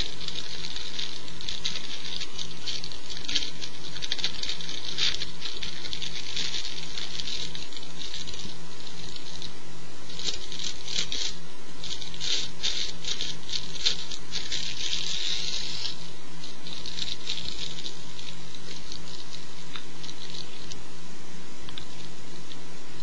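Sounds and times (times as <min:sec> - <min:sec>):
rolling paper crinkling: 0:00.0 - 0:20.9, 0:21.6 - 0:23.0
low electrical hum: 0:00.0 - 0:23.0.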